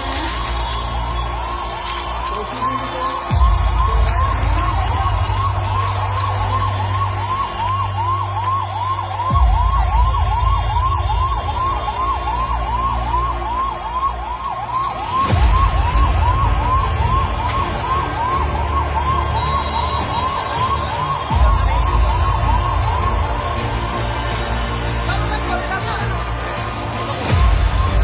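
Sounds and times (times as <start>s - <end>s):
siren yelping: 0.0s - 28.0s.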